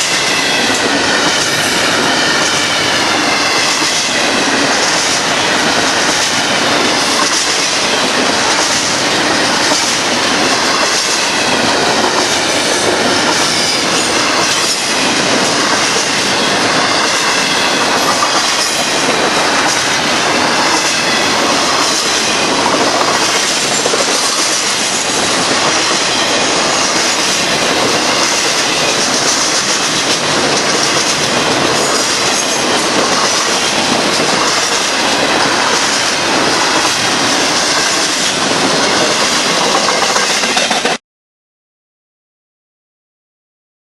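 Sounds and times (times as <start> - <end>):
train wheels rushing on rails: 0.0 - 41.0.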